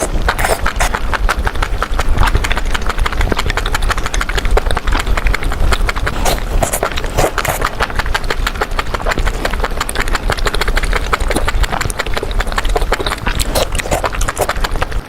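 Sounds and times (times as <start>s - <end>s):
chewing and smacking: 0.0s - 15.0s.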